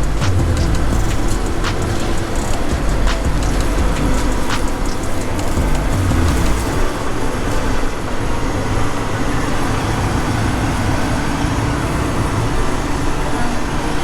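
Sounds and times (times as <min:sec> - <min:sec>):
pickup truck engine rumbling: 0:00.0 - 0:14.0.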